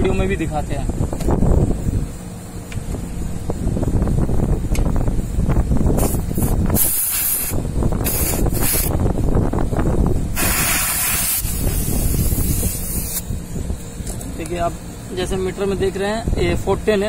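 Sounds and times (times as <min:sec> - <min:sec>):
refrigerant hissing: 0:03.2 - 0:17.0.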